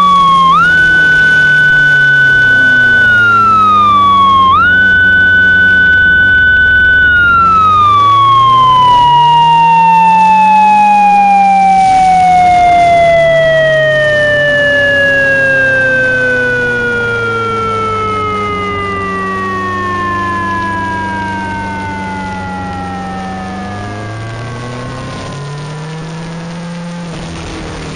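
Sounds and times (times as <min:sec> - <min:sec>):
low steady hum: 0:00.0 - 0:27.9
siren wail falling in pitch: 0:00.0 - 0:27.9.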